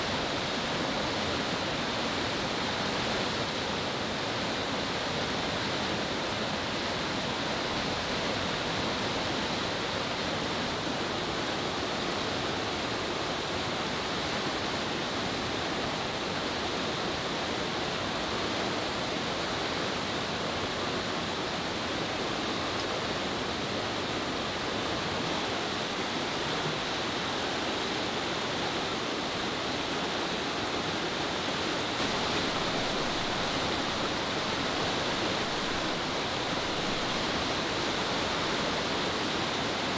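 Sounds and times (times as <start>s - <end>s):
river rushing over rapids: 0.0s - 39.9s.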